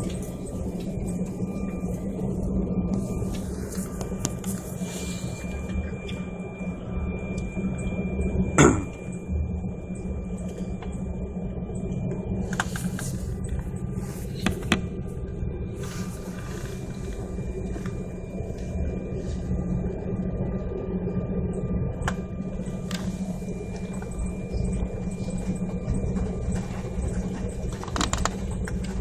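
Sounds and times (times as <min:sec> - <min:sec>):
airliner cabin hum: 0:00.0 - 0:29.0
faint whine tones: 0:00.0 - 0:29.0.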